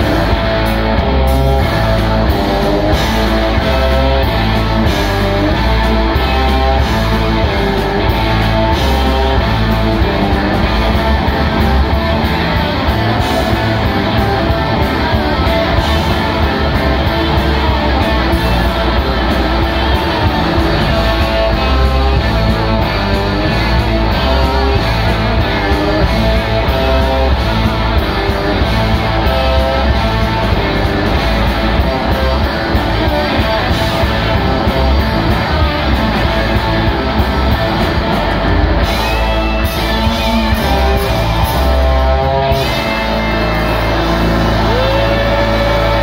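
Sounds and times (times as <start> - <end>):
bass: 0.0 - 46.0
drums: 0.0 - 46.0
electric guitars playing lead lines: 0.0 - 46.0.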